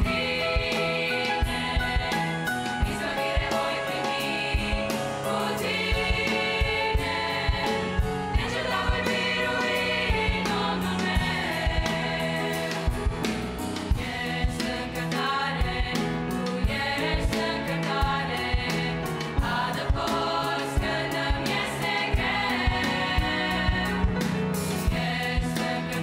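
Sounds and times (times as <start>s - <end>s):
girls' choir singing a hymn: 0.0s - 24.2s, 24.8s - 26.0s
piano accompaniment: 0.0s - 26.0s
steady low drum beat: 0.0s - 26.0s.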